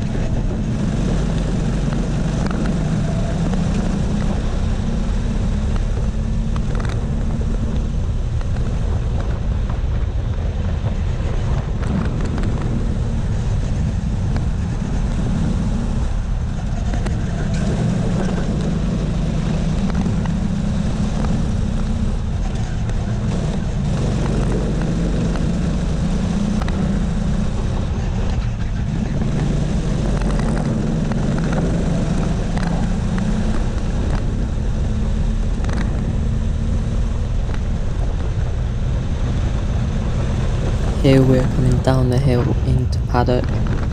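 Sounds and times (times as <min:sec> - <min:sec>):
racing kart engine: 0:00.0 - 0:43.9.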